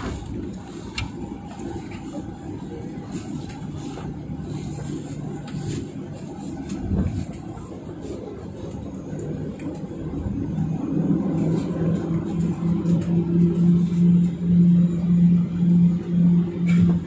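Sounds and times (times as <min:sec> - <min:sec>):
jet engine rumble: 0:00.0 - 0:17.0
jet engines idling hum: 0:00.0 - 0:17.0.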